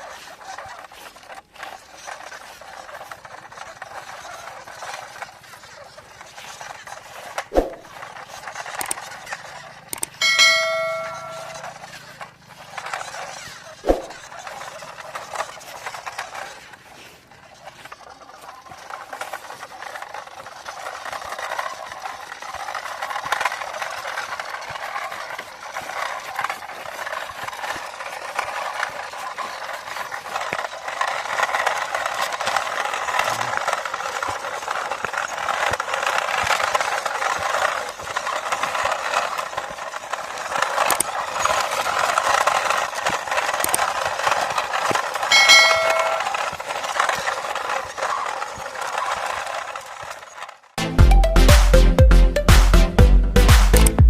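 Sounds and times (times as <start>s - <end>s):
plastic rattling and clicking: 0.0s - 10.6s, 11.4s - 50.8s
toy truck motor whirring: 0.0s - 50.8s.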